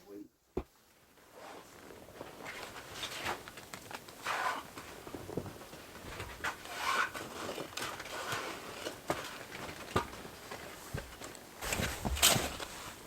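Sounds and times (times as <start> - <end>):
small clicks and rustles: 1.6 - 13.0.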